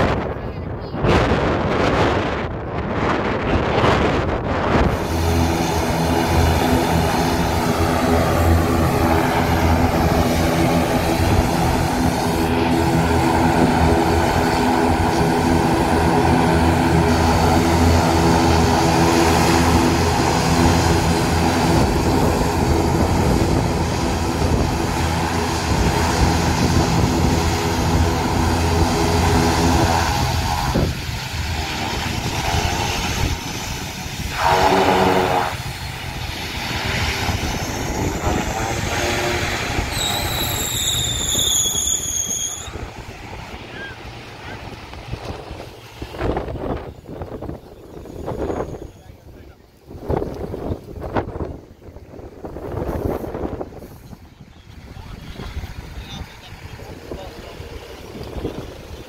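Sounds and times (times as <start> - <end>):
propeller drone: 0.0 - 59.0.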